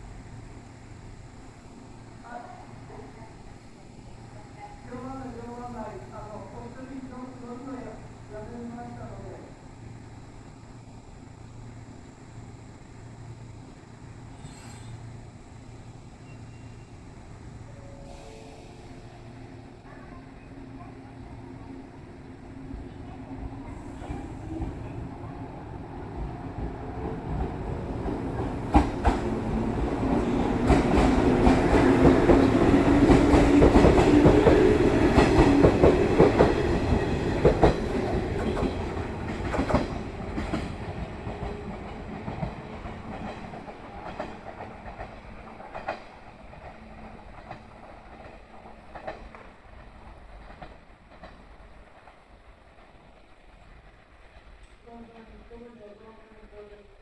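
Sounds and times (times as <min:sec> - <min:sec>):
train passing close by: 0:00.0 - 0:57.0.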